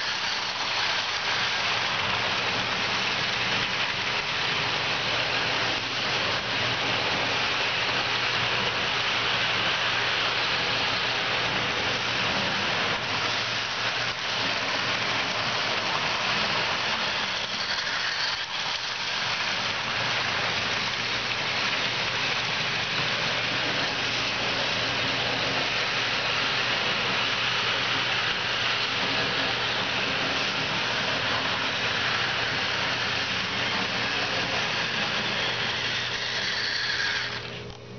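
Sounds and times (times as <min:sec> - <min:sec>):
model train motors whirring: 0:00.0 - 0:37.9
wheels rattling on track: 0:00.0 - 0:37.9.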